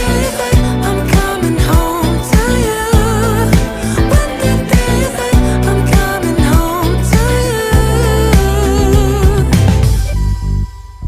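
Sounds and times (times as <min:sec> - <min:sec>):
pop song with sung melody: 0:00.0 - 0:11.0.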